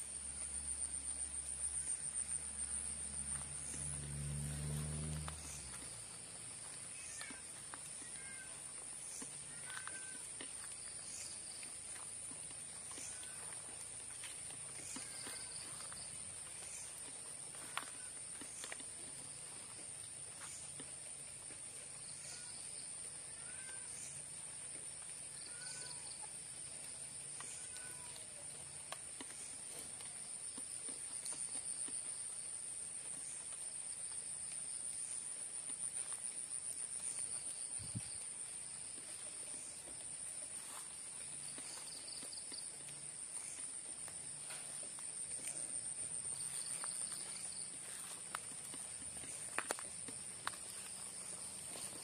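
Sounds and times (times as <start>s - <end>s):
high-pitched insect trill: 0.0s - 19.4s, 21.9s - 26.5s, 27.1s - 28.2s, 31.2s - 52.0s.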